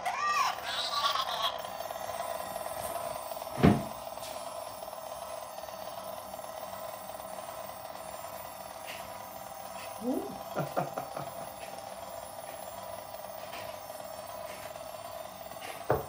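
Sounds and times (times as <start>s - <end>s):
toy robot buzzing electronic tone: 0.0s - 16.0s.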